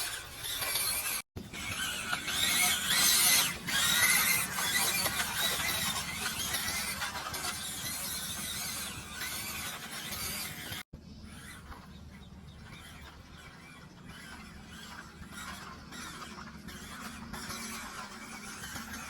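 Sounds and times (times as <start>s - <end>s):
toy car electric motor whining: 0.0s - 19.0s.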